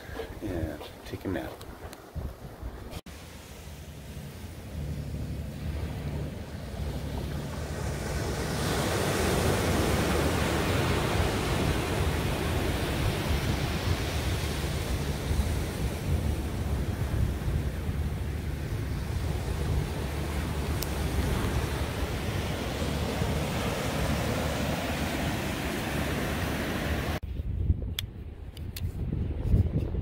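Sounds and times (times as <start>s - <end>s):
wind on microphone: 0.0s - 3.0s, 5.6s - 30.0s
surf breaking on a beach: 3.1s - 27.2s.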